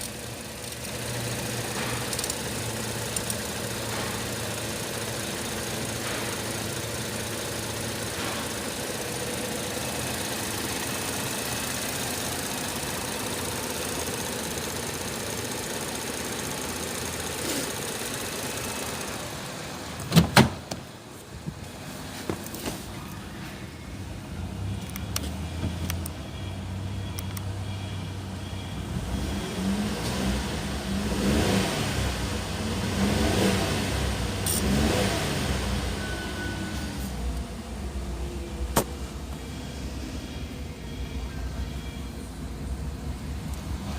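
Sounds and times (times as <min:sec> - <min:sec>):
car engine idling: 0:00.0 - 0:31.4, 0:33.7 - 0:43.9.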